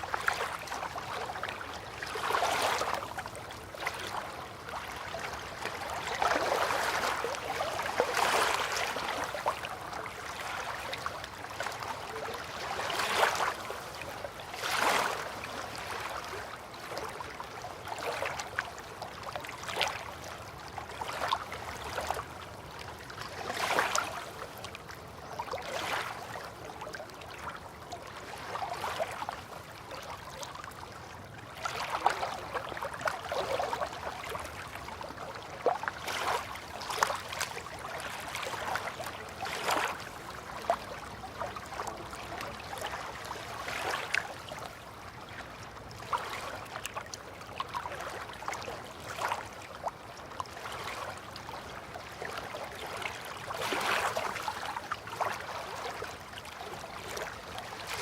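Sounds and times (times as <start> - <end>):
river water lapping at bank: 0.0 - 58.0
steady wash of water: 0.0 - 58.0.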